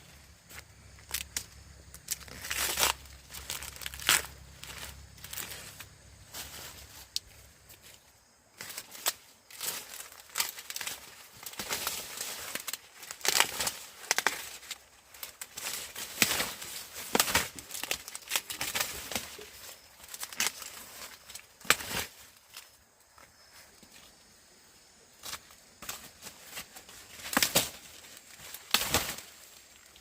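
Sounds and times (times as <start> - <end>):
dry corn husks crackling and tearing: 0.1 - 24.2, 25.1 - 30.0.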